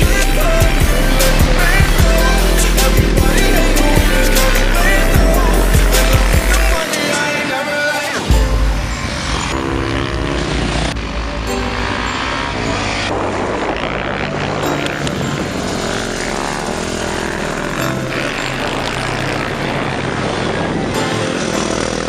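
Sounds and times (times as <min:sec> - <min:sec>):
motorcycle engines revving: 0:00.0 - 0:22.0
music: 0:00.0 - 0:22.0.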